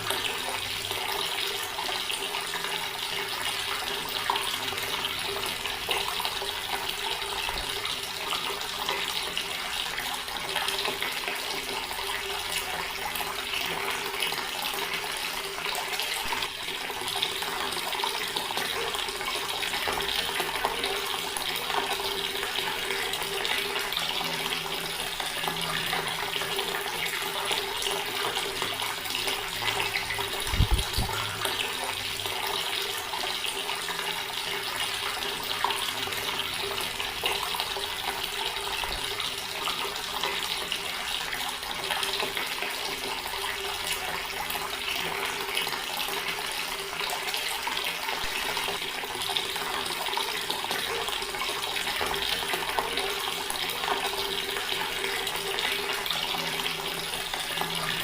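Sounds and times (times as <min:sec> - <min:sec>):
tap water splashing into basin: 0:00.0 - 0:58.0.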